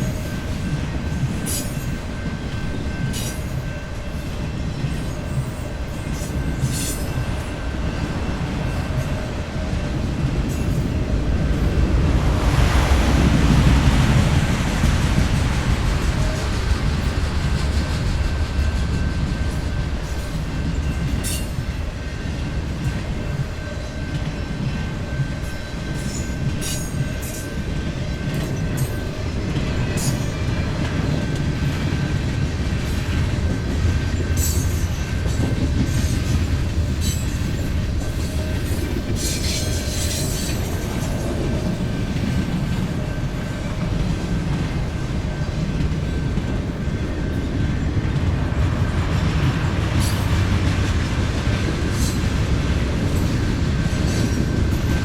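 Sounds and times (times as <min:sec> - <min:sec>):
train rumbling past: 0:00.0 - 0:55.0
wheels squealing on rails: 0:00.0 - 0:55.0.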